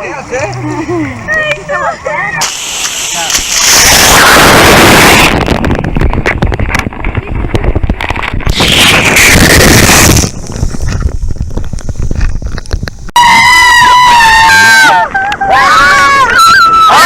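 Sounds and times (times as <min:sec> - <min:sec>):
rushing buffeting noise on microphone: 0:00.1 - 0:17.0.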